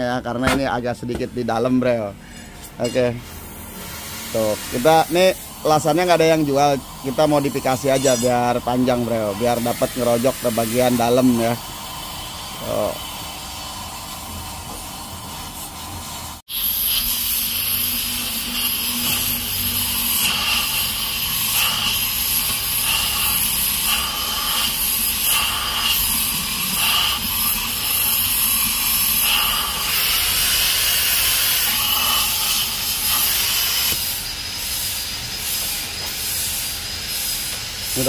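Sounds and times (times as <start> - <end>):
cutting torch hissing: 2.2 - 38.0.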